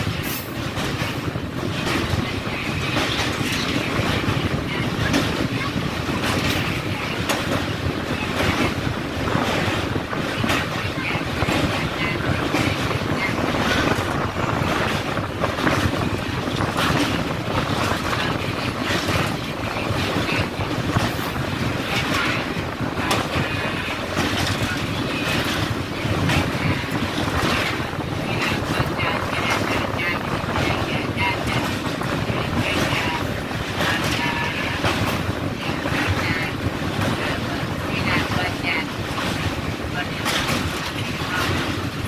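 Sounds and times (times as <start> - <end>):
train wheels on a bridge: 0.0 - 42.0
wind buffeting microphone: 0.0 - 42.0.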